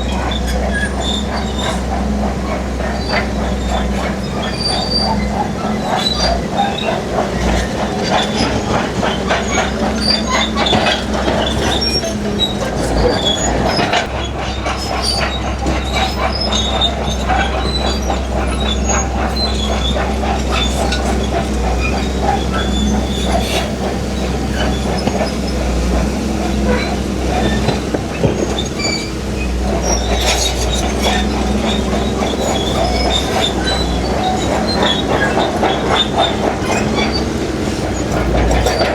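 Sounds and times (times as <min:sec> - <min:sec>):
diesel engine running: 0:00.0 - 0:38.9
steel tracks clanking and squealing: 0:00.0 - 0:38.9.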